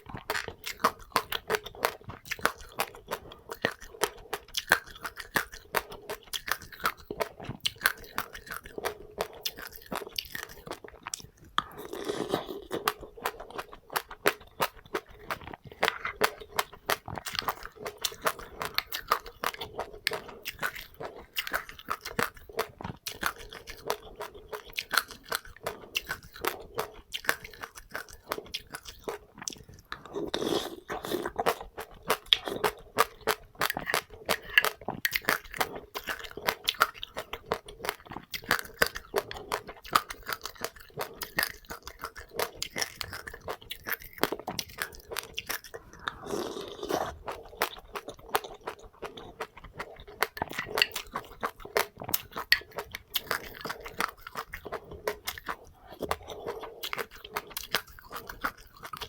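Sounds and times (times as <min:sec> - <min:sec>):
crisp crunchy chewing: 0:00.0 - 0:59.0.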